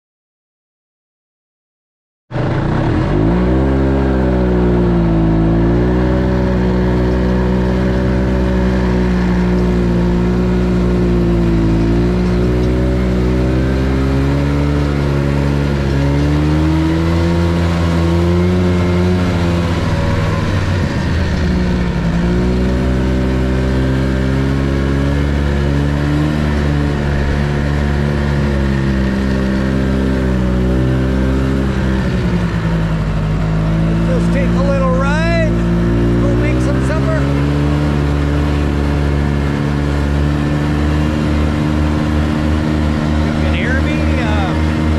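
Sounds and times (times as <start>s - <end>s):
small vehicle engine running: 2.3s - 44.9s.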